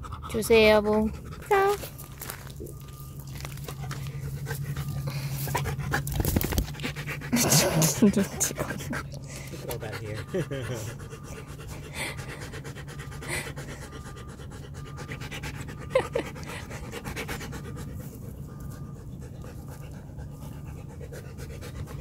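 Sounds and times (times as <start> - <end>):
dog panting: 0.0 - 22.0.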